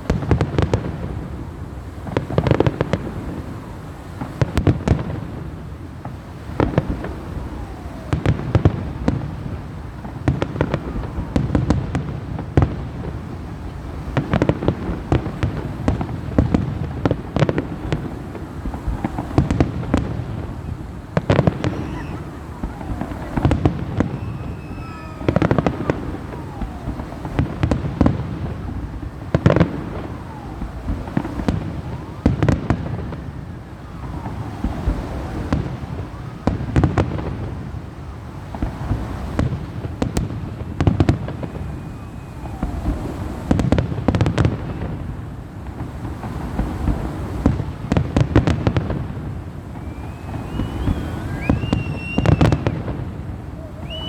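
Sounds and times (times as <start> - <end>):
fireworks bangs: 0.0 - 54.0
fireworks crackling: 0.0 - 54.0
fireworks whistles: 2.1 - 54.0.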